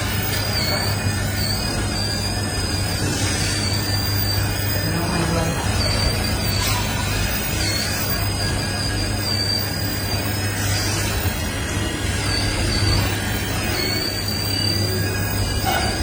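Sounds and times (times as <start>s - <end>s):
excavator engine drone: 0.0s - 16.0s
high wavering squeal: 0.0s - 16.0s.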